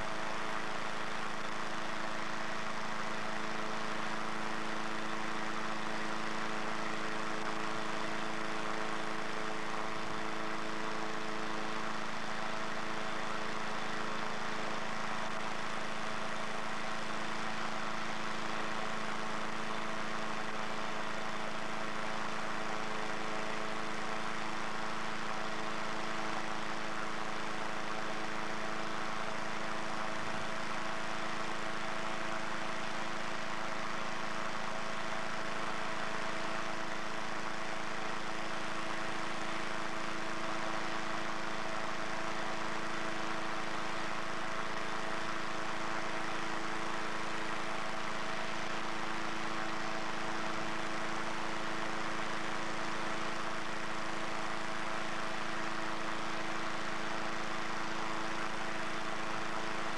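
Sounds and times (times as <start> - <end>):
engine inflator fan running: 0.0 - 59.9.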